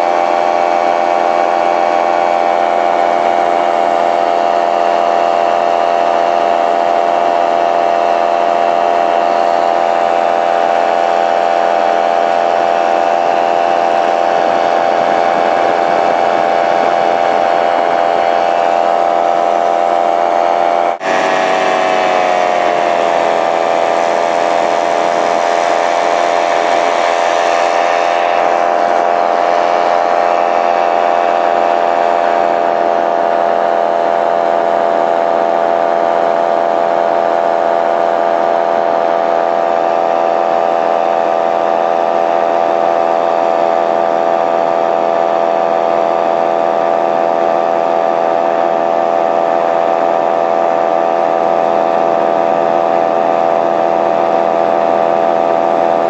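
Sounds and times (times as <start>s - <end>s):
paramotor engine running: 0.0s - 56.0s.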